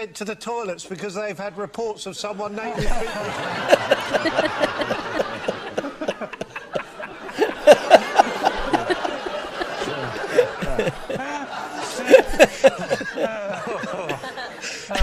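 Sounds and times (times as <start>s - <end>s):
studio audience laughter: 2.4s - 15.0s
man laughing close up: 2.8s - 15.0s.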